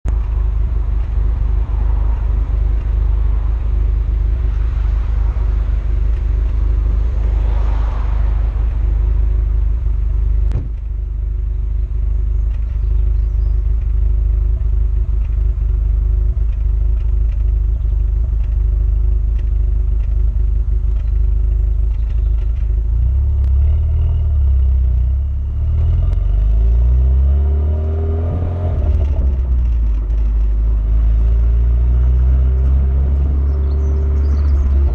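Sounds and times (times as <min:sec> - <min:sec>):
car engine idling: 0:00.0 - 0:34.9
engine revving: 0:00.1 - 0:34.9.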